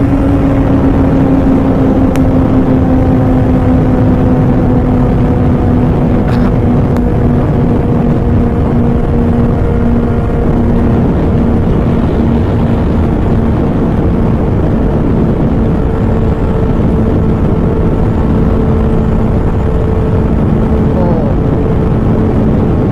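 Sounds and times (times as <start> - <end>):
vehicle engine rumble: 0.0 - 22.9.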